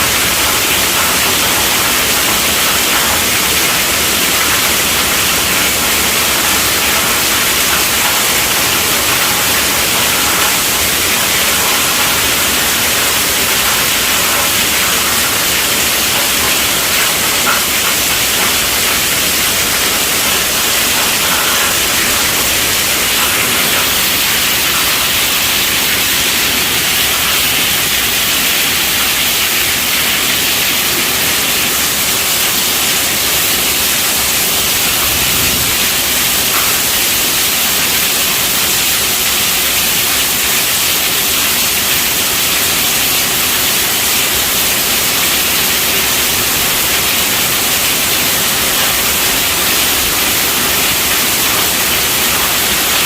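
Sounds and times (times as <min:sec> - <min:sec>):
steady rainfall hiss: 0:00.0 - 0:53.0.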